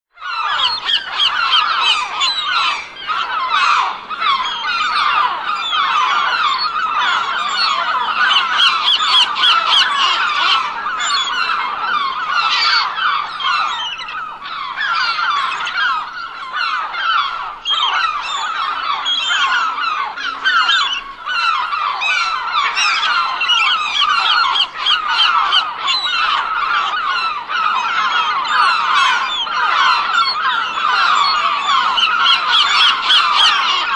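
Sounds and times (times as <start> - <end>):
flock of gulls calling: 0.2 - 33.9.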